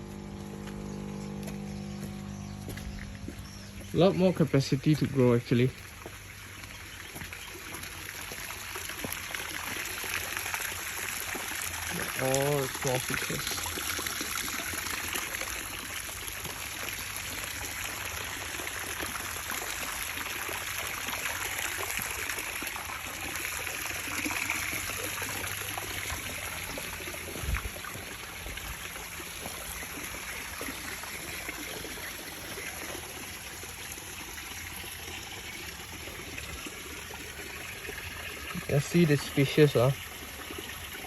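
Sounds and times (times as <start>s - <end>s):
water trickling into tanks: 0.0s - 41.0s.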